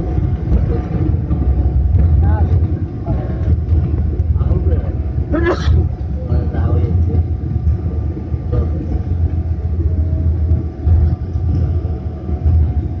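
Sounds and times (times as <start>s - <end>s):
airliner engines and wheels rumbling: 0.0s - 13.0s.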